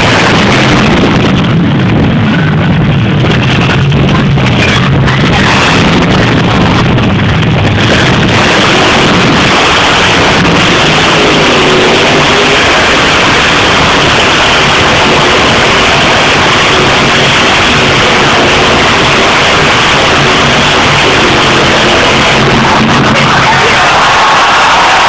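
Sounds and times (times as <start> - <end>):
monster truck engines at full throttle: 0.0 - 25.0.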